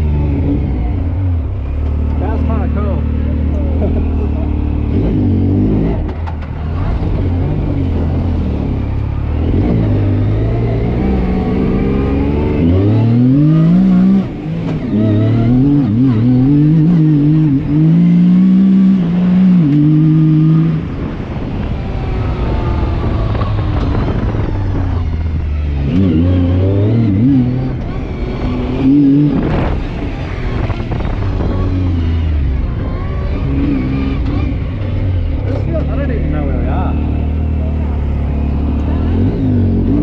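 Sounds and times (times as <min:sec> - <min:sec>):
engine revving: 0:00.0 - 0:40.0.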